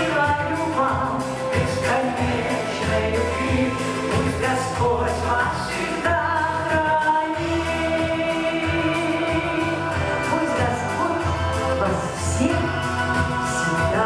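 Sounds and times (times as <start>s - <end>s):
instrumental accompaniment: 0.0s - 14.0s
person singing long notes: 0.0s - 14.0s
steady bass line: 0.0s - 14.0s.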